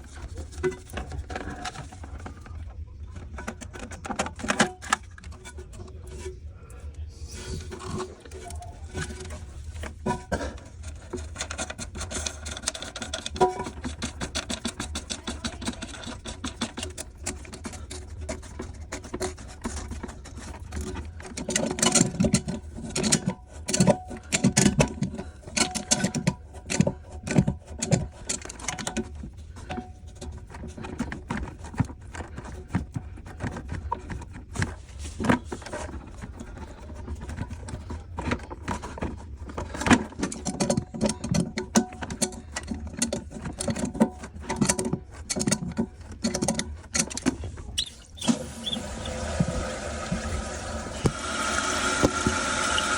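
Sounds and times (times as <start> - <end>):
toilet tank parts clicking: 0.0 - 6.8, 7.6 - 52.9.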